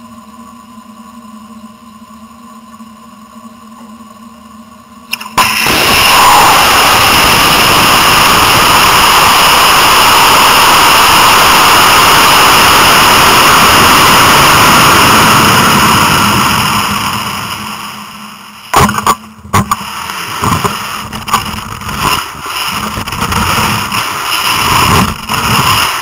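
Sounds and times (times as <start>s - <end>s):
rocket motor roaring: 5.1s - 26.0s.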